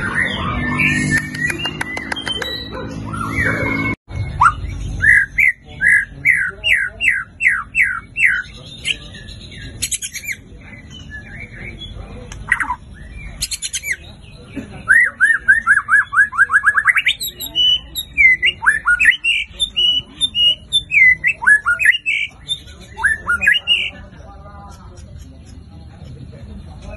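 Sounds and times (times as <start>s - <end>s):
songbird singing loudly: 0.0s - 24.8s.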